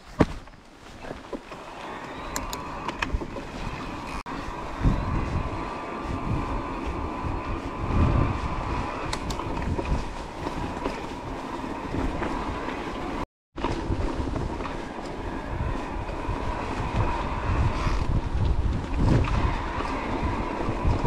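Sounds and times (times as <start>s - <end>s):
tyres rumbling on rough trail: 0.0s - 21.0s
wind on microphone: 1.8s - 21.0s.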